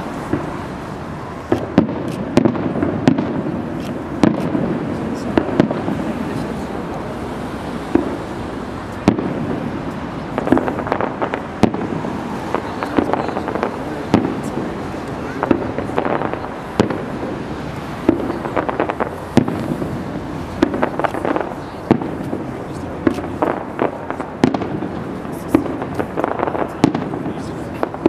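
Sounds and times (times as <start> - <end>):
crackling firework pops: 0.0 - 0.6, 1.4 - 7.1, 7.9 - 8.3, 8.9 - 17.2, 18.0 - 28.0.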